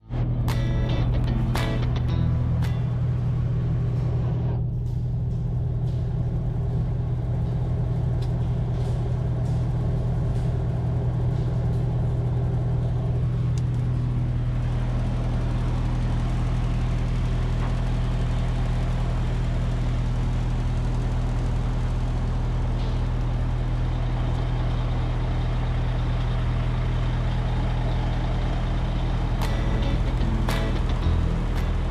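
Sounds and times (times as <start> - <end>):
concrete mixer truck engine hum: 0.0 - 31.9.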